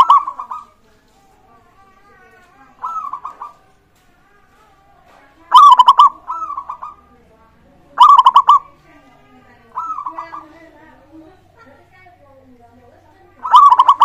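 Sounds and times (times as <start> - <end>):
faint doves calling: 0.0 - 1.6, 2.2 - 4.0, 5.0 - 11.8, 12.8 - 14.0
doves cooing: 0.0 - 11.8, 12.9 - 14.0.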